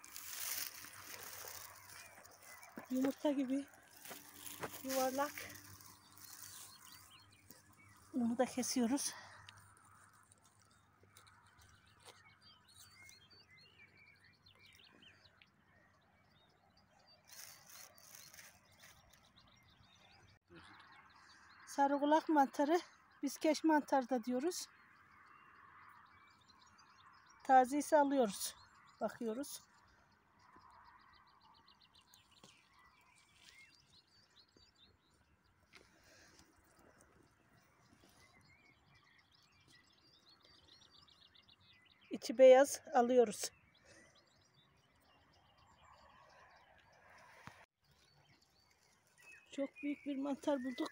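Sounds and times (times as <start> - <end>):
faint chirping of small birds: 0.0 - 50.9.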